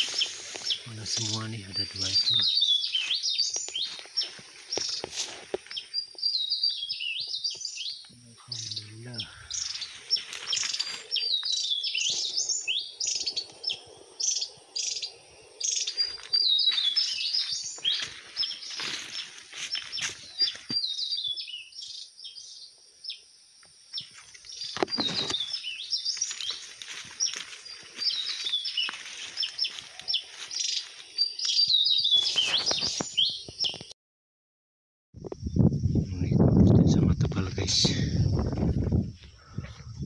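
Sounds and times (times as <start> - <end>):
birds chirping and twittering: 0.0 - 33.9, 35.2 - 40.0.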